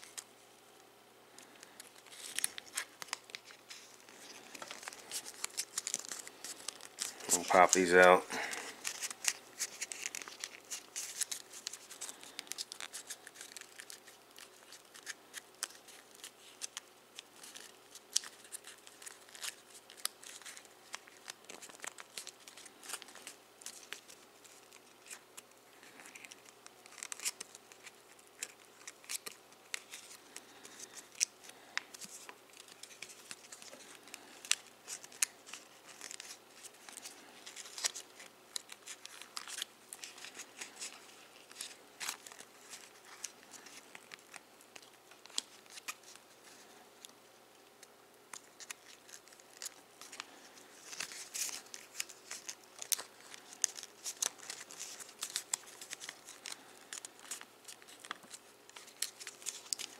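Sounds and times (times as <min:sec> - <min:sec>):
foil paper crinkling: 0:01.3 - 0:59.9.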